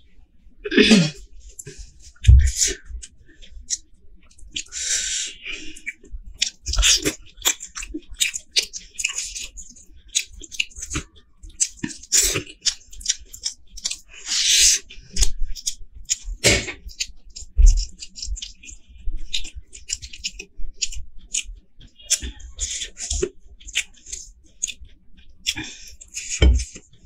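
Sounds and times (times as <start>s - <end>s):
person chewing food: 0.7s - 27.0s.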